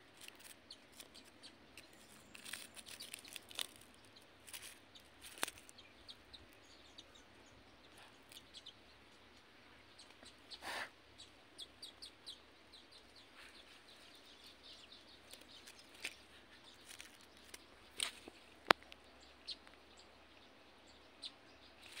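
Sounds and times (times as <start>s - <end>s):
outdoor background noise: 0.0s - 22.0s
faint bird chirps: 0.4s - 22.0s.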